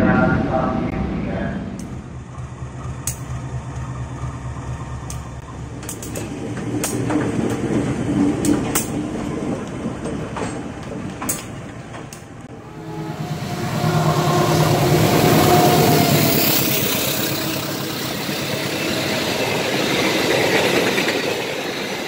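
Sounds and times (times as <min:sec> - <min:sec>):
locomotive engine rumble: 0:00.0 - 0:22.0.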